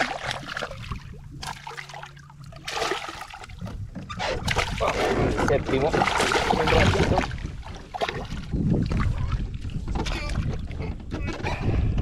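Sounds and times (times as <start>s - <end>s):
water splashing and trickling: 0.0s - 11.2s.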